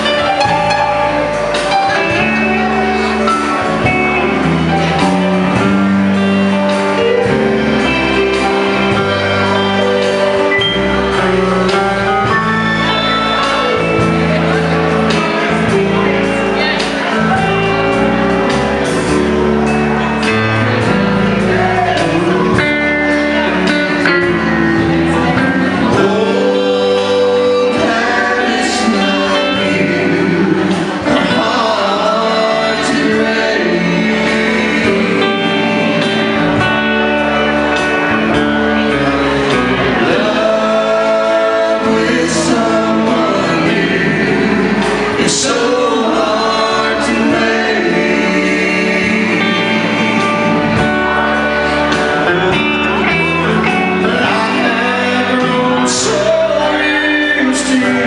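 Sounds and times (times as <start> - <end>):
lead singer: 0.0 - 58.0
live country band: 0.0 - 58.0.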